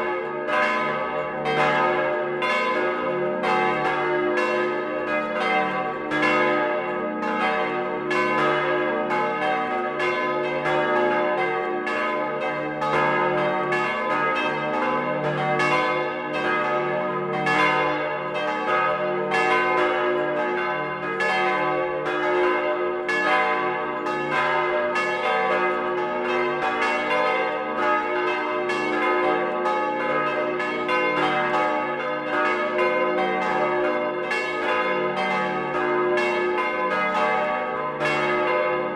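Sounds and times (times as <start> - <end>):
church bells ringing in a peal: 0.0 - 38.9.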